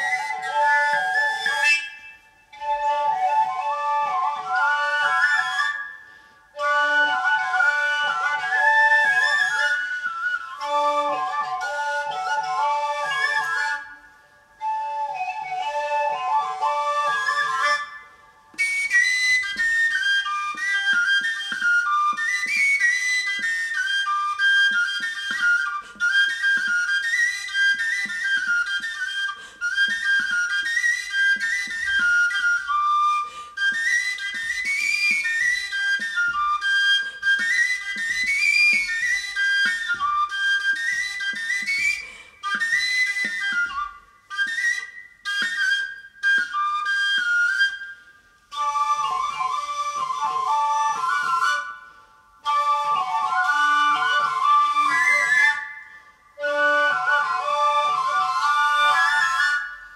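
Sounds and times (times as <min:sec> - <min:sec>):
lively high woodwind melody: 0:00.0 - 0:59.9.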